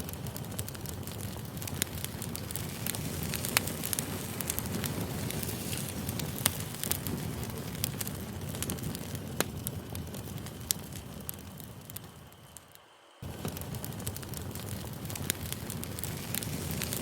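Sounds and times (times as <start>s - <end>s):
campfire rushing: 0.0s - 17.0s
wood crackling and popping: 0.0s - 17.0s.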